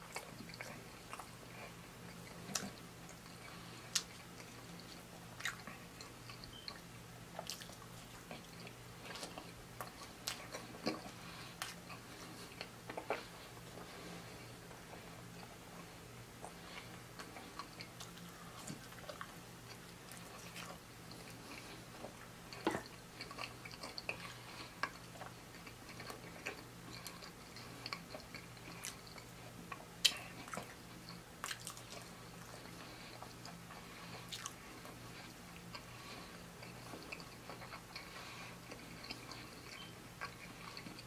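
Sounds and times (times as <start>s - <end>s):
person chewing pizza: 0.0s - 41.0s.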